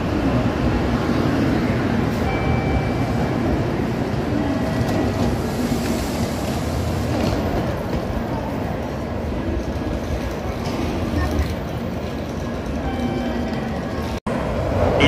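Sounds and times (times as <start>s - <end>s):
train cars rushing past: 0.0s - 15.0s.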